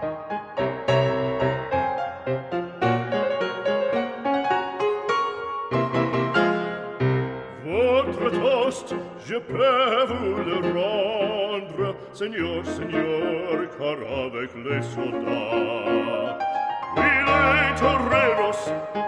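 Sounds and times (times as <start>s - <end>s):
classical instrumental music: 0.0s - 19.0s.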